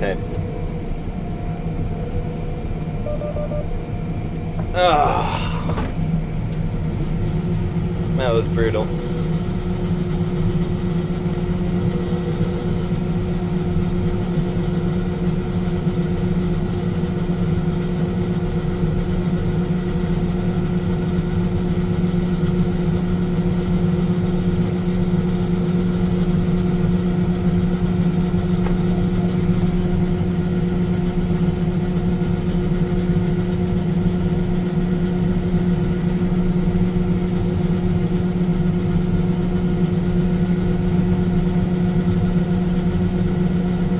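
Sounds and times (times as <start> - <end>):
combine engine drone: 0.0 - 43.9.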